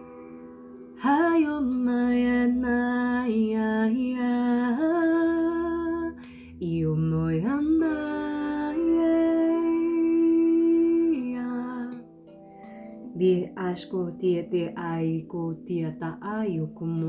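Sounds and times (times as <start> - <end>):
woman singing long wordless notes: 1.0 - 17.0.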